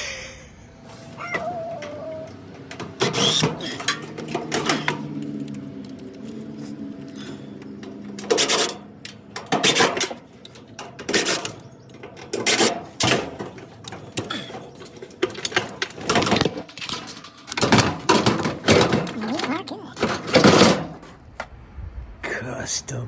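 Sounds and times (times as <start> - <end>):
metal parts clanking: 0.9 - 21.2.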